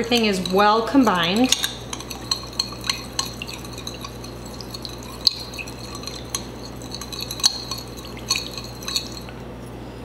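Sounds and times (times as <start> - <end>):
metal clinking against glass: 0.0 - 9.3
spoon stirring runny mixture: 0.0 - 9.4.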